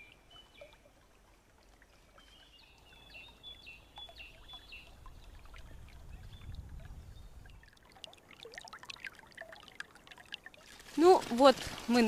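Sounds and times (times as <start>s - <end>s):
trickling water: 0.0s - 12.0s.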